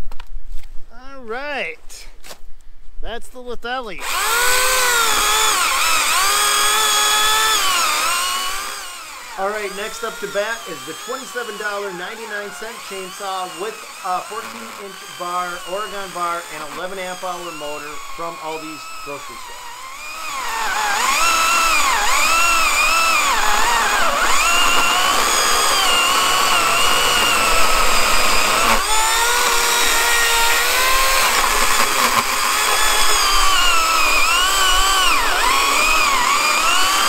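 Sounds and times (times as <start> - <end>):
electric chainsaw cutting log: 4.0 - 37.0.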